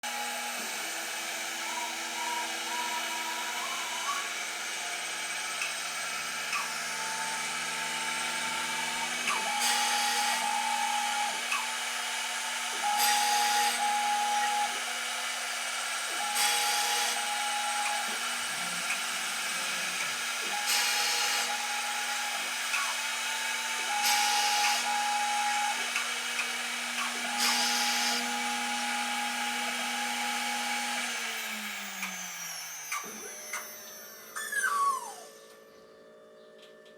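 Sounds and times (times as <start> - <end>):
machine motor whine: 0.0 - 35.6.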